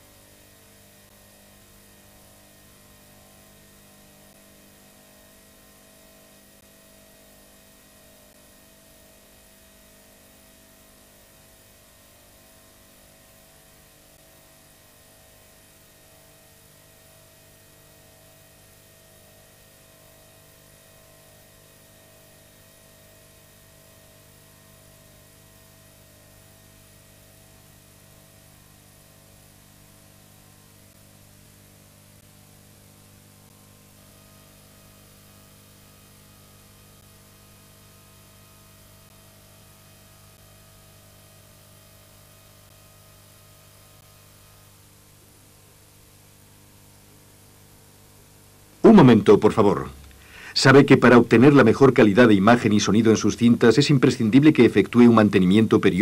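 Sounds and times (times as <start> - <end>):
faint electrical hum and hiss: 0.0 - 56.0.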